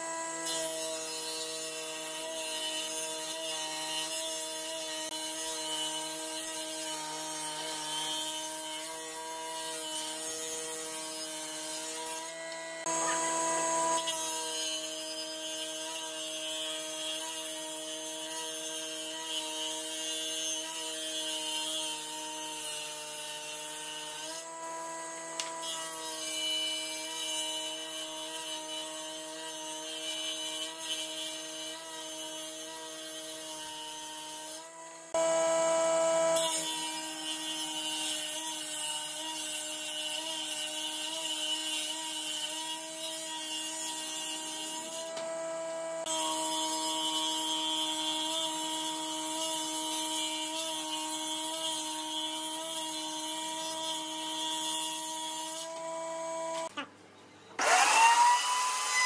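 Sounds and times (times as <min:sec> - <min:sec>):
electric power tool motor: 0:00.0 - 0:28.7, 0:29.4 - 0:56.9, 0:57.6 - 0:59.0.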